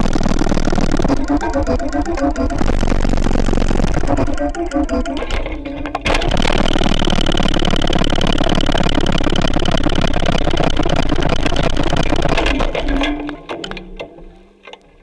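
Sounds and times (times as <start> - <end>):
pulsing engine-like buzz: 0.0 - 14.0
steady high whine: 0.0 - 14.6.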